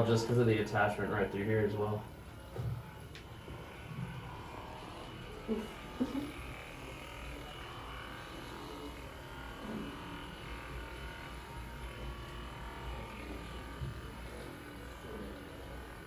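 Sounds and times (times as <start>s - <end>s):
massage gun motor hum: 0.0s - 16.0s.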